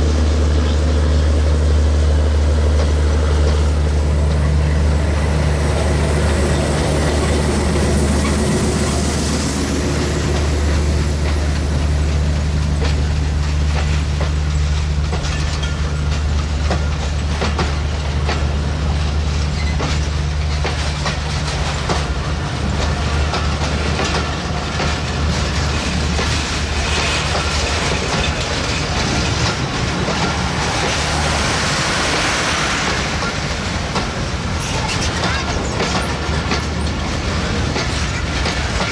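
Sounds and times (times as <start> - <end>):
train low rumble: 0.0 - 38.9
train wheels clattering over rail joints: 0.0 - 38.9.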